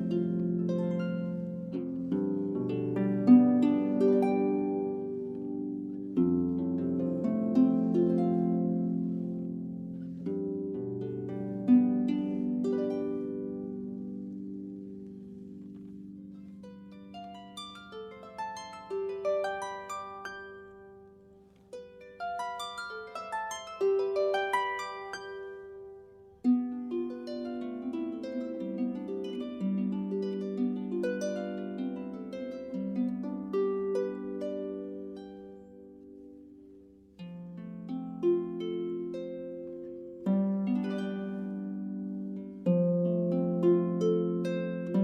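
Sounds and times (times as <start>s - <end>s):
solo harp playing: 0.0s - 45.0s.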